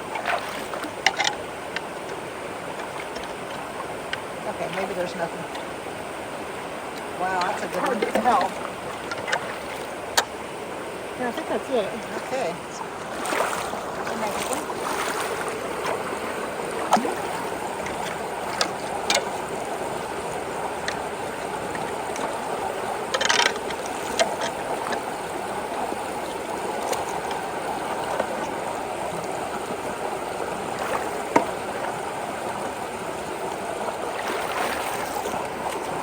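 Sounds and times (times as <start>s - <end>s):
creek water rushing through culvert: 0.0s - 36.0s.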